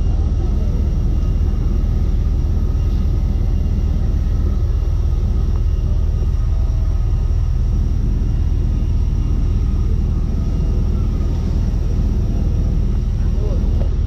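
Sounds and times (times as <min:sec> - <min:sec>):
faint whining tones: 0:00.0 - 0:14.0
jet airliner rumble: 0:00.0 - 0:14.0.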